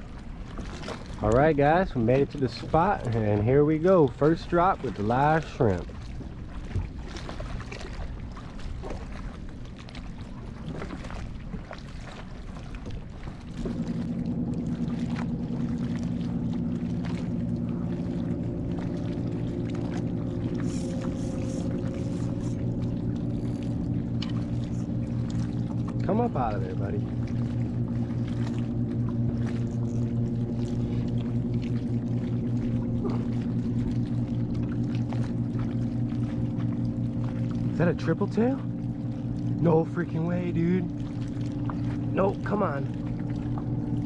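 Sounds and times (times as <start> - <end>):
boat engine humming: 0.0 - 44.0
water lapping: 0.0 - 44.0.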